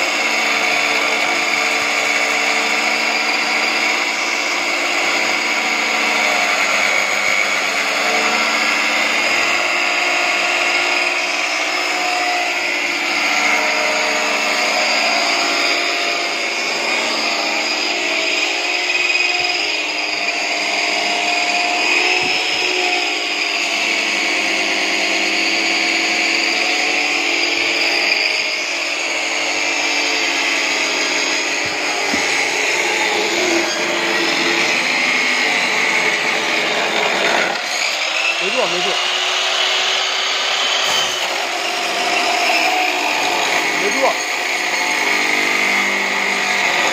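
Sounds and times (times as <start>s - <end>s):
cut-off saw whining: 0.0s - 46.9s
disc grinding through steel: 3.1s - 46.9s.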